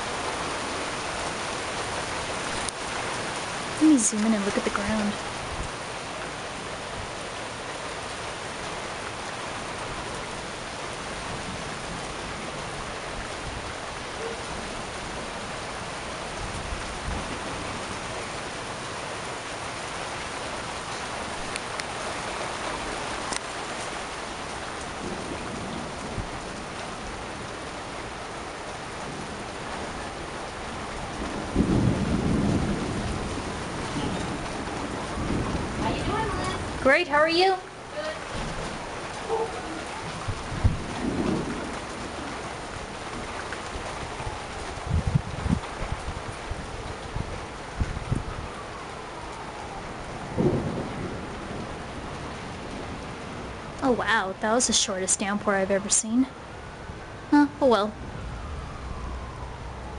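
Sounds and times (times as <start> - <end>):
low rumble of thunder: 0.0 - 54.2, 57.9 - 59.9
heavy rain hissing on pavement: 0.0 - 59.9.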